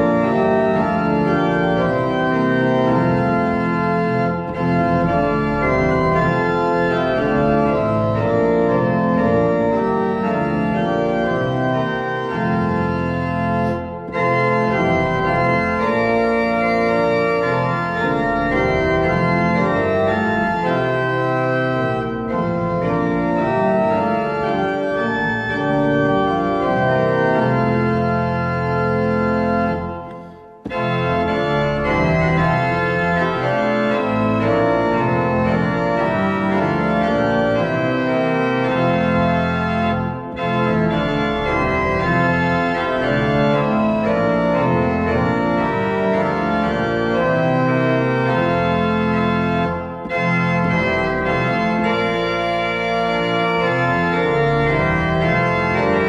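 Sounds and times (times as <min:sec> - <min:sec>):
organ playing sustained chords: 0:00.0 - 0:56.0.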